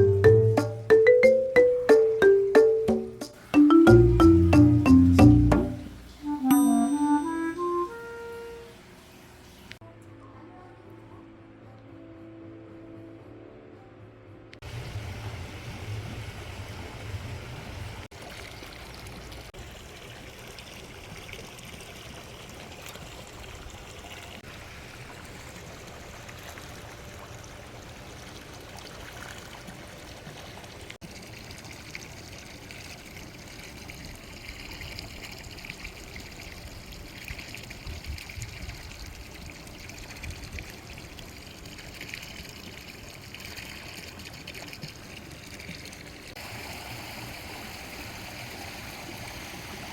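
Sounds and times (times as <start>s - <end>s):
running trickling water: 0.0s - 9.8s, 14.6s - 49.9s.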